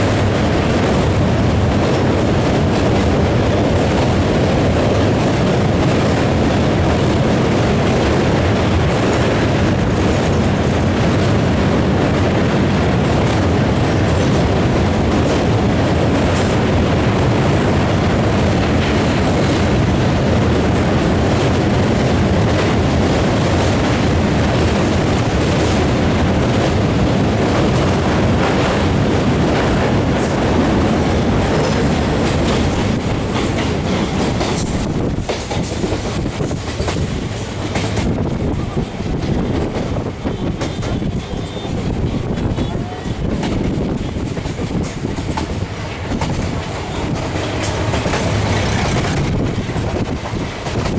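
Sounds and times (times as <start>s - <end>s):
train rumbling: 0.0s - 50.9s
wheels clicking on rails: 0.0s - 50.9s.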